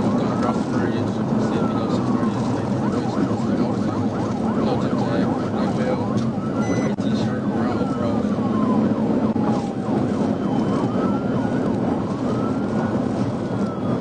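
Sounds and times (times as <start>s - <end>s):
police siren wailing: 0.0s - 14.0s
road and engine noise: 0.0s - 14.0s.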